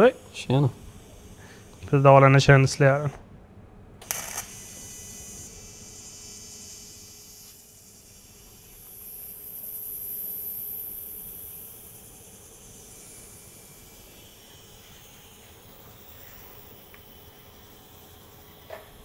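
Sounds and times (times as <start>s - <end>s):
welding arc hissing: 0.0s - 2.8s, 4.0s - 19.0s.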